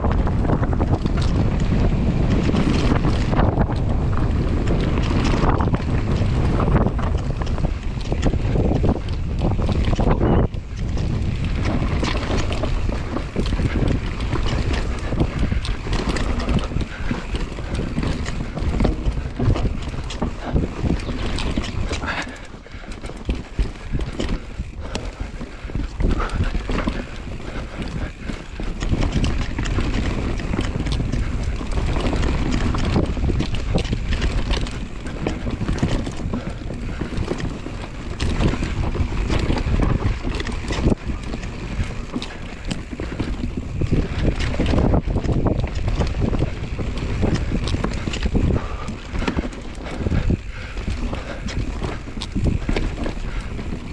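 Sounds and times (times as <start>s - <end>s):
bike clattering and rattling: 0.0s - 53.9s
tyre roar on dirt: 0.0s - 53.9s
wind buffeting microphone: 0.0s - 53.9s.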